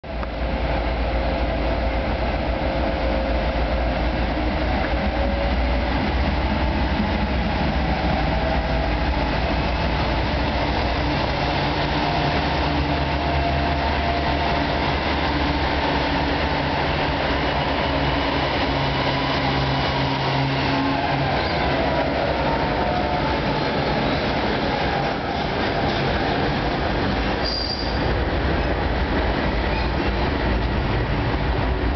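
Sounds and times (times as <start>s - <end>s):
freight train rumbling past: 0.0s - 31.9s.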